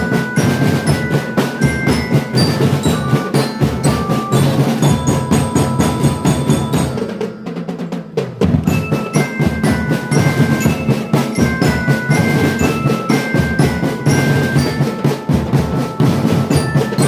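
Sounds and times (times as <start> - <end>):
bell lyre melody: 0.0 - 17.0
snare and bass drums beating: 0.0 - 17.0.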